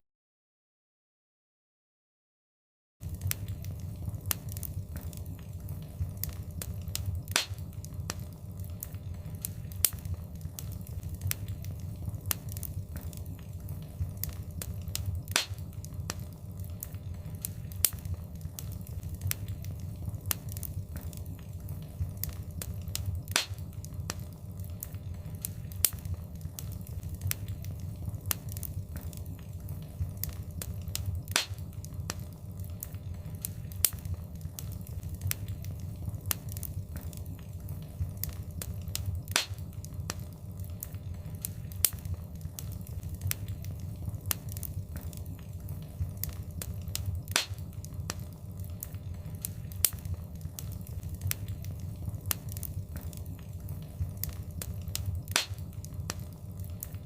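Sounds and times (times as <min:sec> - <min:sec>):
low rumble of flames: 0:03.0 - 0:57.0
wood fire crackling and popping: 0:03.0 - 0:57.0.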